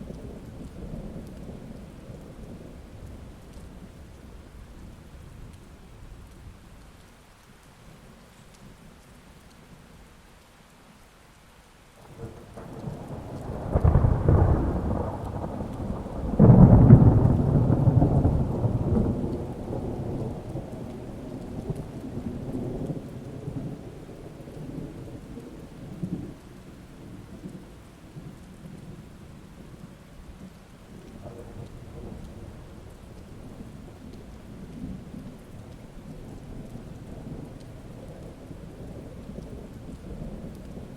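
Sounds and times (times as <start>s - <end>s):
thunder rumbling: 0.0s - 6.5s, 12.0s - 40.9s
steady rain: 0.0s - 40.9s.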